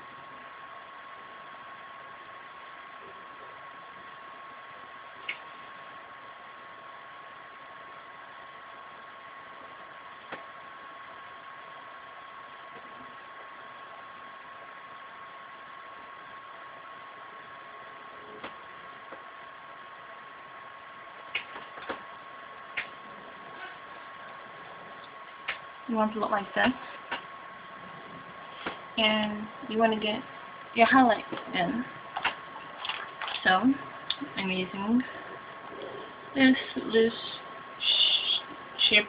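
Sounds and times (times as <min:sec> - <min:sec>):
high-pitched whine: 0:00.0 - 0:32.8, 0:33.5 - 0:39.0
background hiss: 0:00.0 - 0:39.0.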